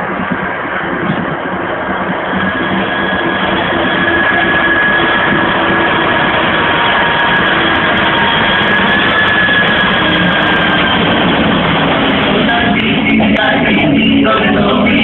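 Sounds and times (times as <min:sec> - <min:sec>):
jet airliner engines rushing: 0:00.0 - 0:15.0
thin engine whine: 0:00.0 - 0:15.0.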